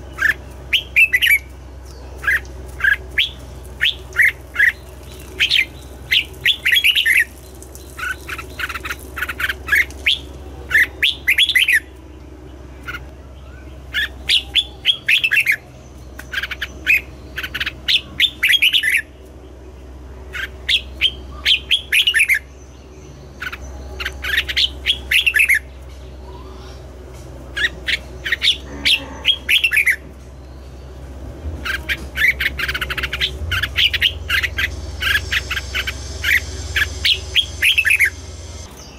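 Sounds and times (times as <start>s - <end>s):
bird singing warbled notes: 0.0s - 19.2s, 19.8s - 38.9s
steady low hum: 0.0s - 38.9s.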